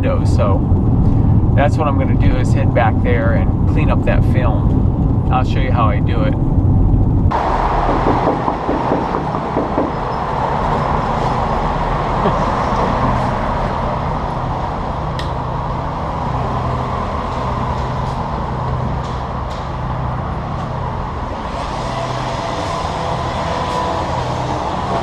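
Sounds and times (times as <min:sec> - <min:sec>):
street traffic hum: 0:00.0 - 0:25.0.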